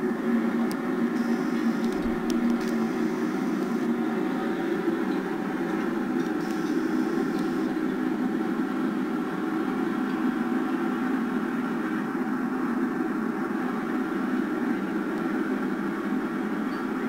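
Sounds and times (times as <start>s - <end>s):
dehumidifier humming: 0.0s - 17.0s.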